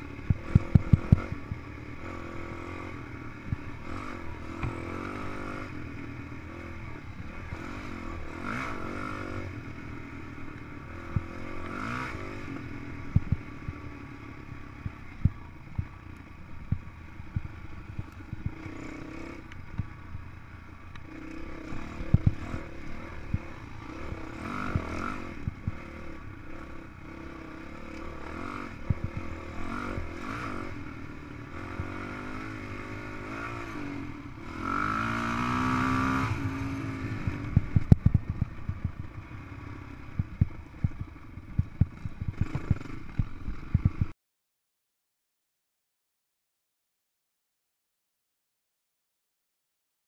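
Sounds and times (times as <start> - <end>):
dirt bike engine revving: 0.0 - 15.9, 16.6 - 44.1.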